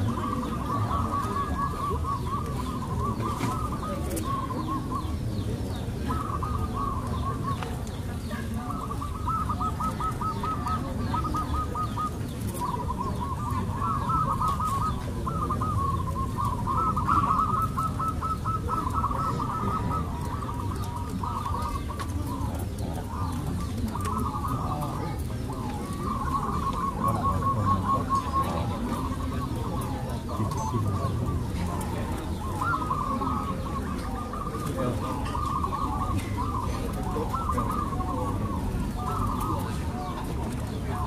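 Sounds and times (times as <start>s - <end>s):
doves cooing: 0.0s - 41.0s.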